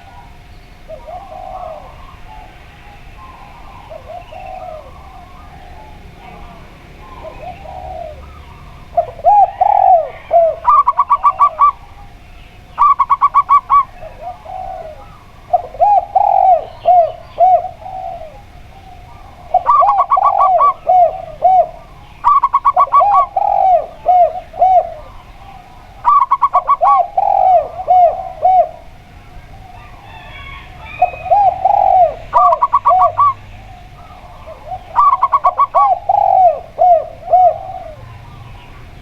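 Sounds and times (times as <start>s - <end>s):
doves cooing: 0.0s - 39.0s.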